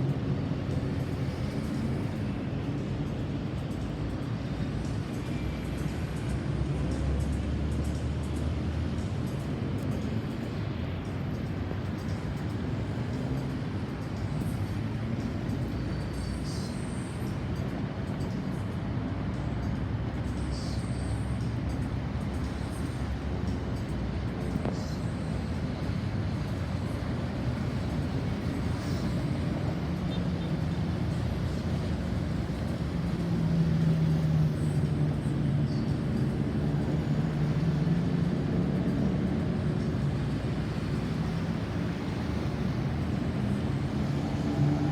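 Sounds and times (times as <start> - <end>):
heavy vehicle engine hum: 0.0 - 44.9
road traffic rumble: 0.0 - 44.9.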